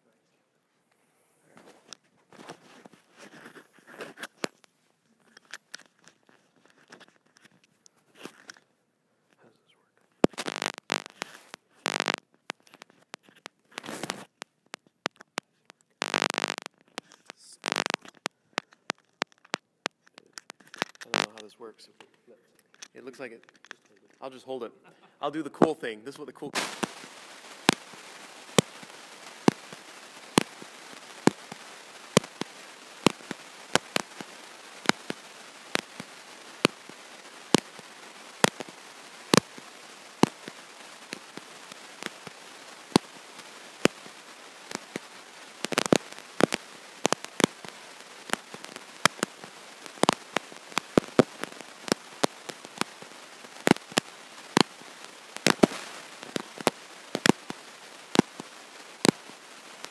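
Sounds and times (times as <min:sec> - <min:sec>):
faint steady hiss: 0:00.0 - 0:59.9
electrical crackle pops: 0:01.6 - 0:08.7, 0:09.4 - 0:59.9.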